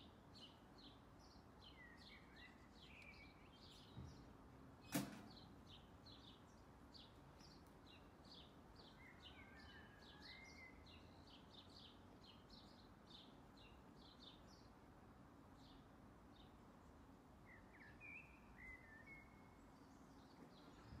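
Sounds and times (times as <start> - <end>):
faint songbirds chirping: 0.0 - 21.0.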